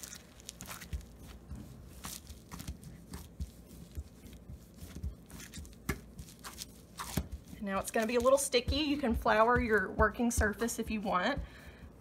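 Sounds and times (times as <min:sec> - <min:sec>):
dough squishing: 0:00.0 - 0:12.0.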